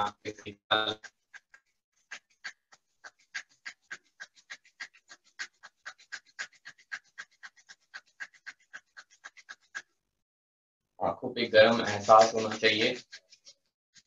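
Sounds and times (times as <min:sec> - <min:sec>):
palms rubbing together: 0:00.0 - 0:10.0, 0:11.4 - 0:14.0.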